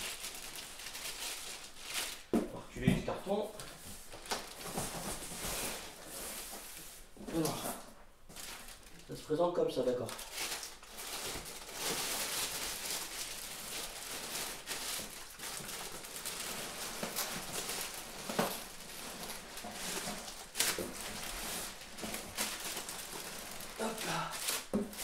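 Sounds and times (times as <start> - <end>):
cardboard and plastic rustling: 0.0 - 25.0.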